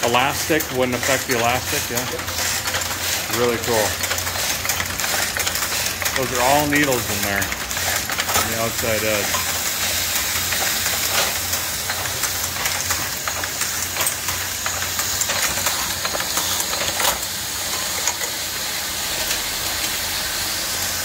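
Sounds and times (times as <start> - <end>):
knitting machines clattering: 0.0 - 21.0.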